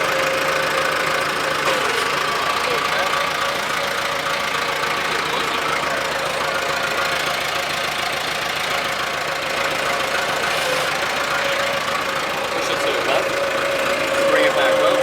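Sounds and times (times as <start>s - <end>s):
toy bulldozer motor humming: 0.0s - 15.0s.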